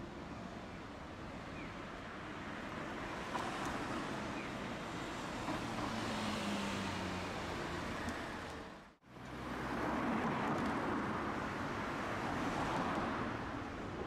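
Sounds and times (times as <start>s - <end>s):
traffic passing close by: 2.3s - 14.0s.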